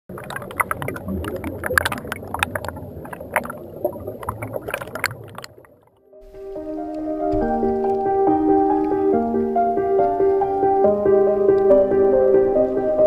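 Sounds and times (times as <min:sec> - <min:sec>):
water splashing against kayak: 0:00.1 - 0:10.8.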